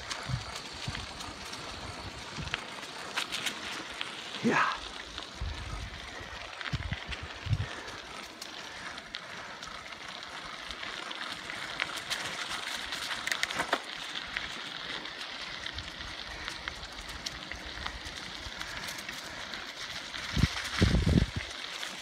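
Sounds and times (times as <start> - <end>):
bicycle tyres crunching on gravel: 0.0 - 22.0
dry leaves crackling: 0.0 - 22.0.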